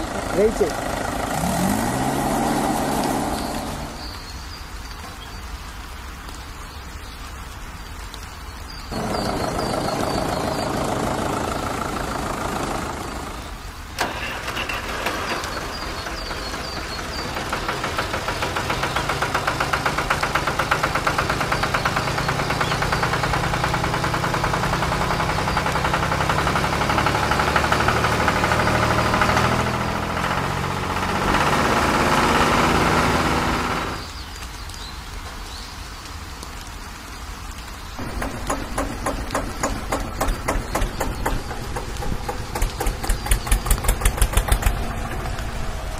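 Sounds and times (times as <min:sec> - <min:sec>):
tractor diesel engine running: 0:00.0 - 0:04.4, 0:08.9 - 0:34.1, 0:38.0 - 0:45.9
steady rain hiss: 0:00.0 - 0:45.9.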